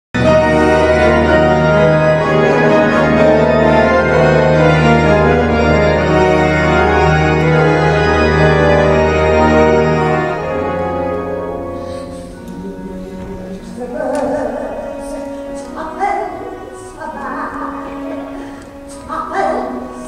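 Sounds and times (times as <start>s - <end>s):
sustained organ chords: 0.2s - 20.0s.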